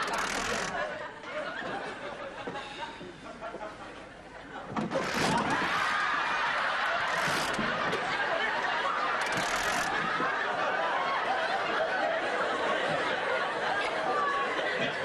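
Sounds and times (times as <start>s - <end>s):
audience laughing: 0.0s - 15.0s.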